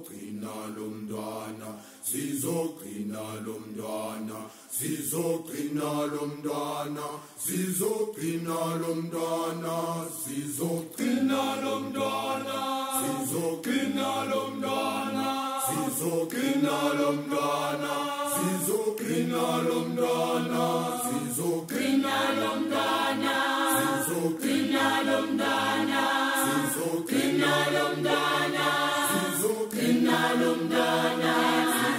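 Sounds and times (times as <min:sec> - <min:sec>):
choir singing in harmony: 0:00.0 - 0:31.9.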